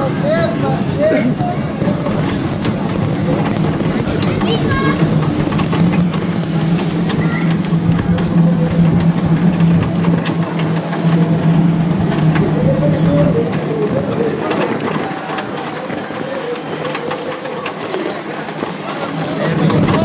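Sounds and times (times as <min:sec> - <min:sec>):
low mechanical hum: 0:00.0 - 0:17.8
rattles and clicks: 0:00.0 - 0:20.0.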